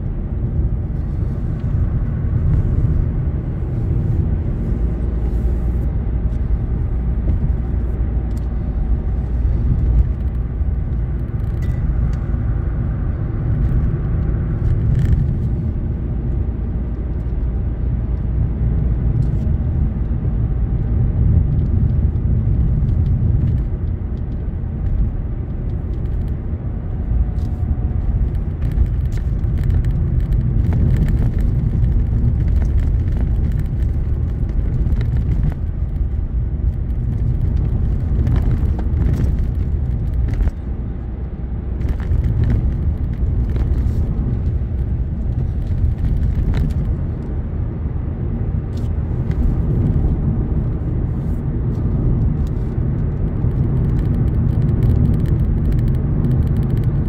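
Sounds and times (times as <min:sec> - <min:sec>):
car interior rumble: 0:00.0 - 0:57.0.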